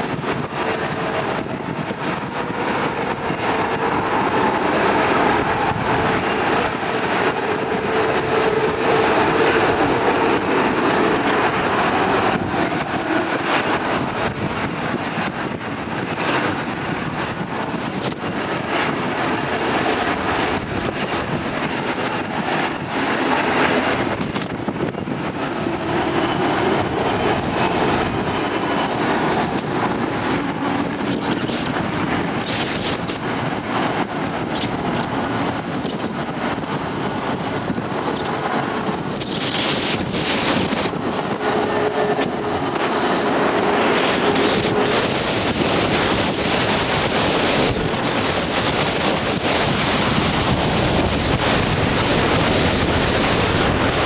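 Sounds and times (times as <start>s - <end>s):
jet engines at taxi thrust: 0.0s - 54.0s
wind buffeting microphone: 0.0s - 54.0s.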